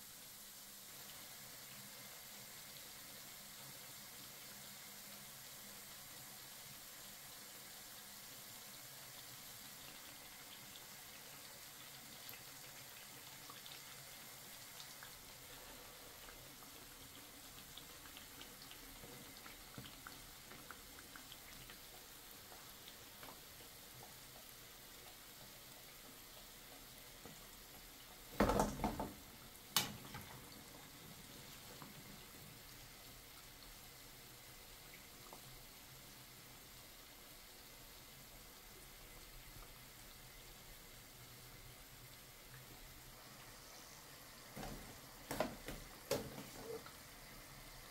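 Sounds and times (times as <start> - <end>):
oil sizzling with pops: 0.0 - 47.9.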